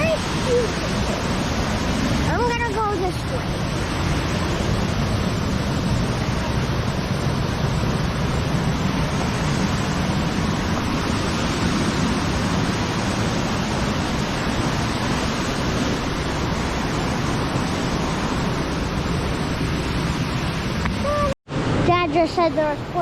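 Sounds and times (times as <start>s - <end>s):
waterfall and stream rushing: 0.0s - 23.0s.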